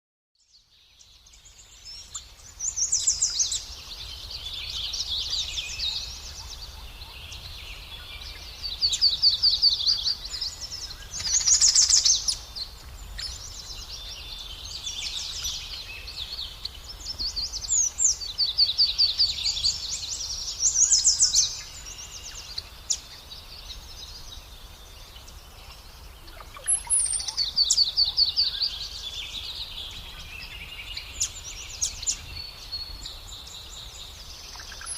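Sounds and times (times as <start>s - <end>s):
small birds trilling: 0.7s - 34.9s.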